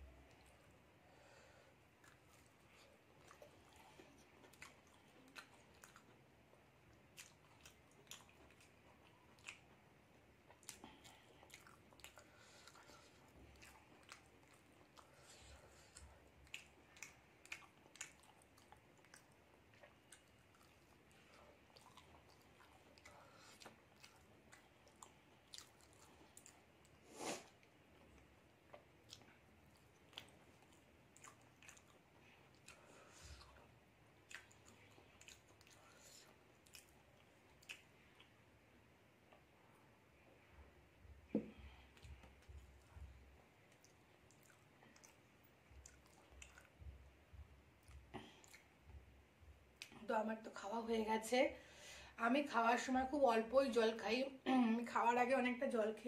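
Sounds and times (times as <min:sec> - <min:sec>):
chewing and biting food: 0:01.9 - 0:38.4, 0:41.0 - 0:50.0.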